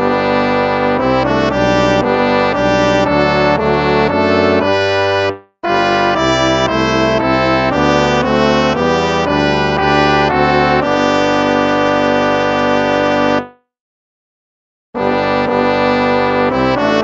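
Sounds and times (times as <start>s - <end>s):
brass hymn music: 0.0s - 13.7s, 15.0s - 17.0s.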